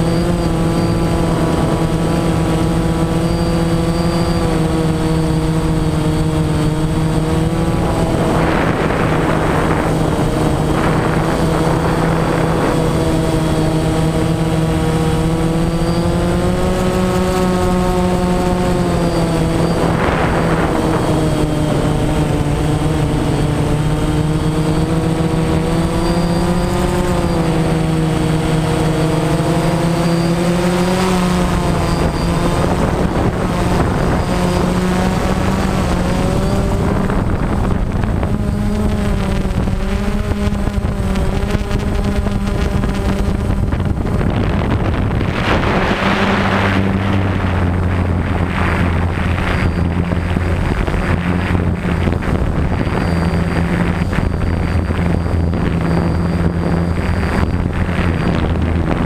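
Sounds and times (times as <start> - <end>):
model aircraft motor humming: 0.0 - 59.0
rushes of noise: 0.0 - 59.0.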